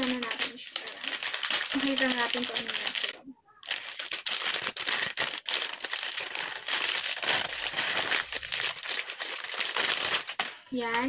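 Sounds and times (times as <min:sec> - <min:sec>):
plastic and bubble wrap crinkling: 0:00.0 - 0:11.0.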